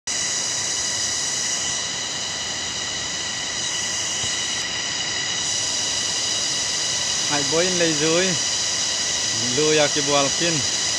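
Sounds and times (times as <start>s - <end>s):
cicada chorus buzzing: 0.1s - 10.9s.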